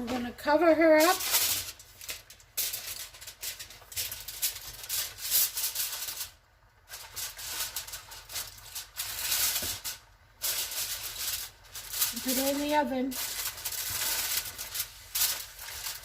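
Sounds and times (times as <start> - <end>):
foil crinkling and rustling: 0.1 - 16.0.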